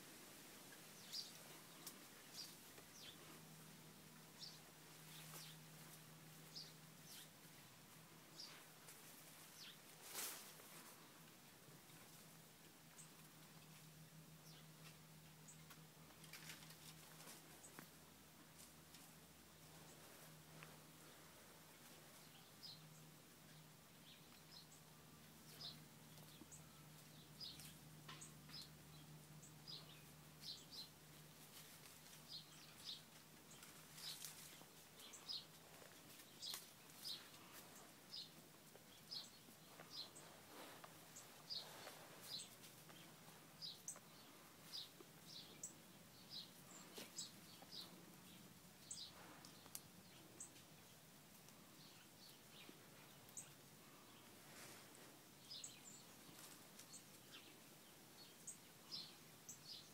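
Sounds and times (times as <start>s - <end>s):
faint steady hum: 0.0s - 59.9s
small birds chirping: 0.0s - 59.9s.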